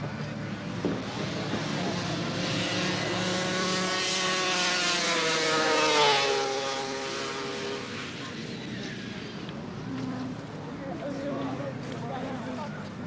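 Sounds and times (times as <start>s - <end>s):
snowmobile engine passing by: 0.0s - 11.8s.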